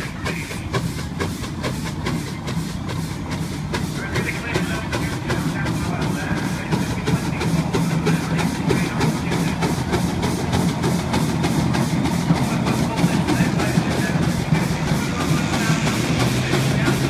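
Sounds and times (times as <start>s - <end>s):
steady low hum: 0.0s - 17.0s
steam engine exhaust beating: 0.0s - 17.0s.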